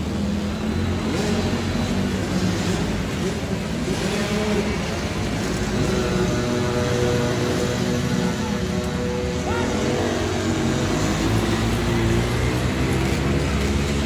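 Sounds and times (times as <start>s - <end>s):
atv engines revving: 0.0s - 14.0s.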